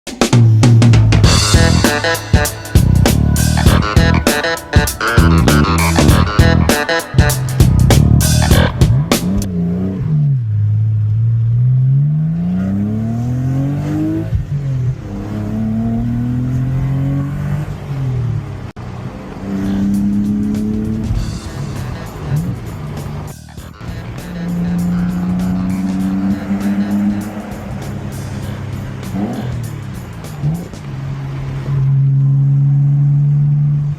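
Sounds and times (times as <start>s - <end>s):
car engine accelerating: 0.6s - 33.9s.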